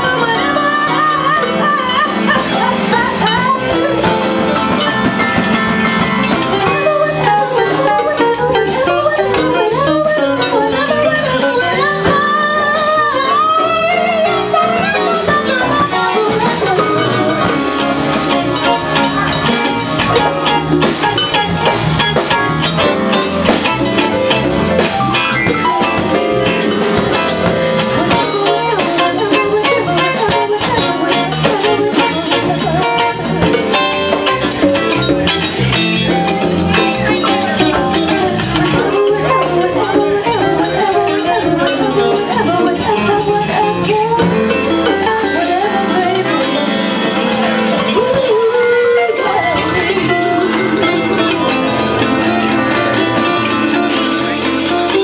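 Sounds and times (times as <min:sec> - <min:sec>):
congas: 0:00.0 - 0:55.0
drum kit: 0:00.0 - 0:55.0
electric keyboard: 0:00.0 - 0:55.0
woman singing: 0:00.0 - 0:55.0.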